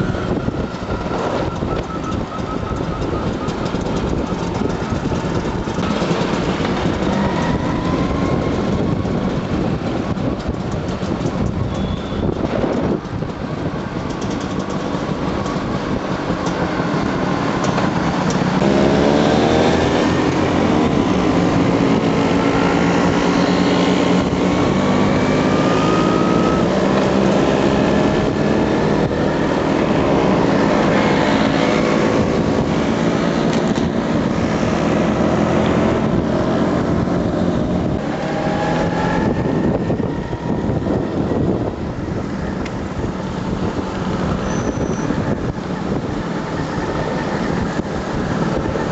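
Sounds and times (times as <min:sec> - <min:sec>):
motor scooter engines: 0:00.0 - 0:48.9.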